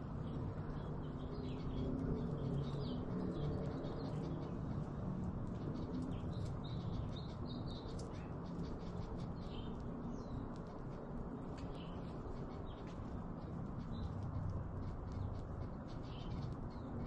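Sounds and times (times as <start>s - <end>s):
finches chirping: 0.0s - 17.0s
low background rumble: 0.0s - 17.0s.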